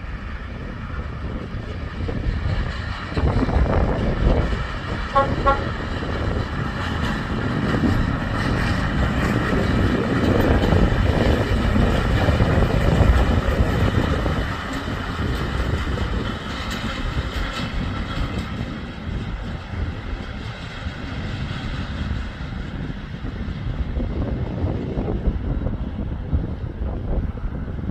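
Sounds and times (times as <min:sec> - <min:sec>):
train rumbling past: 0:00.0 - 0:27.9.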